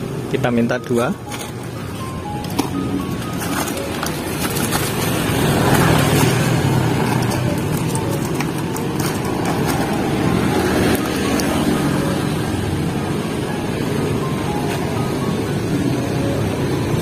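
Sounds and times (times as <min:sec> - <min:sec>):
passing cars and motorbikes: 0:00.0 - 0:17.0.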